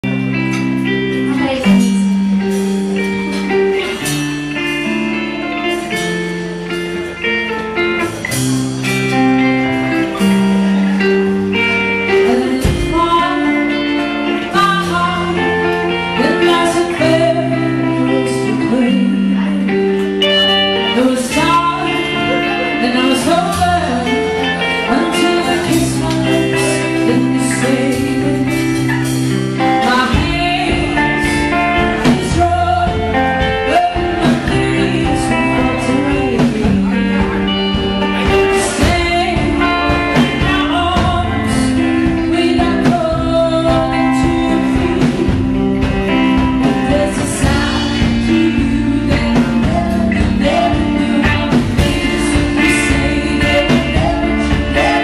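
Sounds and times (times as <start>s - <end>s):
live band playing pop ballad: 0.0s - 55.0s
woman singing: 0.5s - 2.5s, 11.5s - 55.0s.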